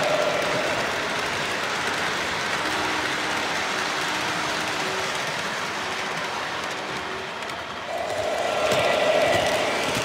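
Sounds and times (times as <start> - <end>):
model train wheels clattering on rails: 0.0 - 10.0.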